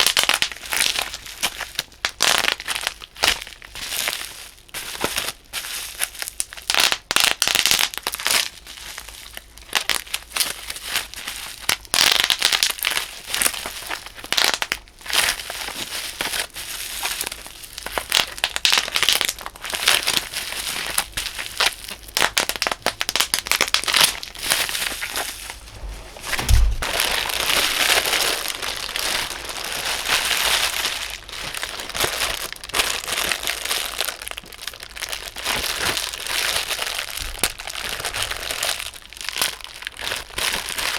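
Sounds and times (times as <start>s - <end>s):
bubble wrap crinkling and popping: 0.0s - 40.9s.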